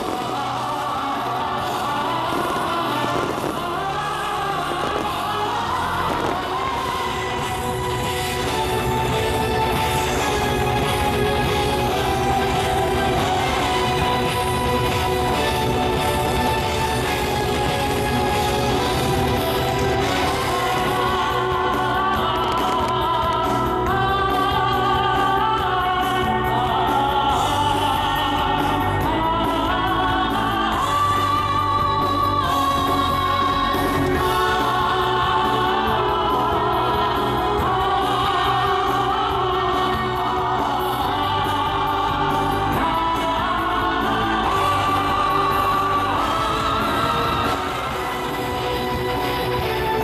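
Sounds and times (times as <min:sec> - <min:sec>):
choral music over loudspeakers: 0:00.0 - 0:50.0.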